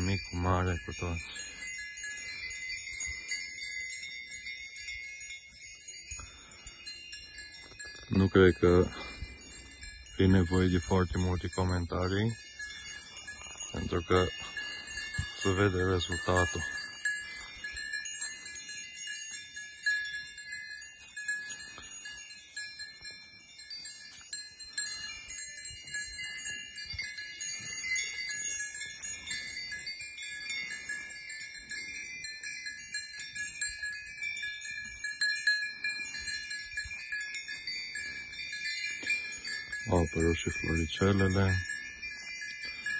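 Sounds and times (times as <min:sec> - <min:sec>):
goat bells jingling: 0:00.0 - 0:42.9.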